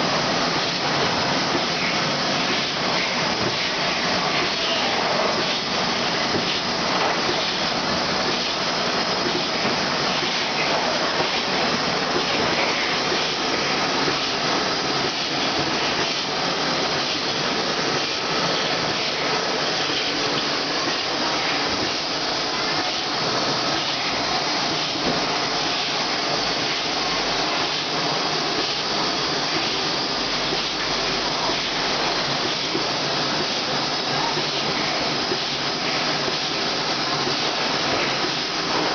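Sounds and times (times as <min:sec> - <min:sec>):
filling machine running: 0:00.0 - 0:38.9.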